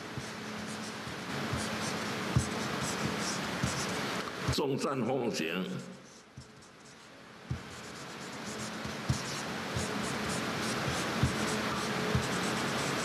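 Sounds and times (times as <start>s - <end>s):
marker scratching on paper: 0.0s - 4.3s, 6.0s - 13.0s.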